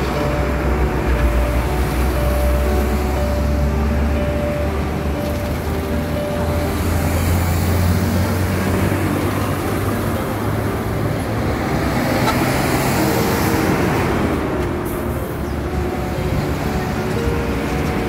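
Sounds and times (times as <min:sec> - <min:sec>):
trucks and cars passing: 0:00.0 - 0:18.0.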